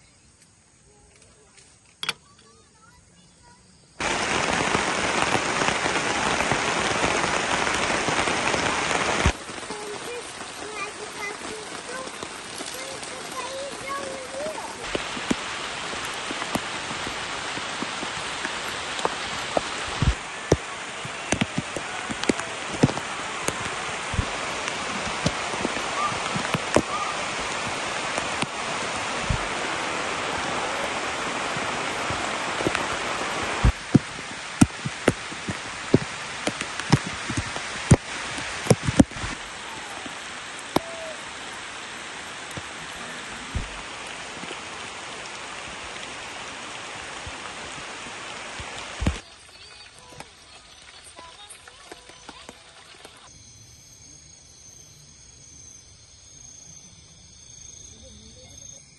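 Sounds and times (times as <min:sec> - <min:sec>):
rain on tarp: 0:00.9 - 0:53.3.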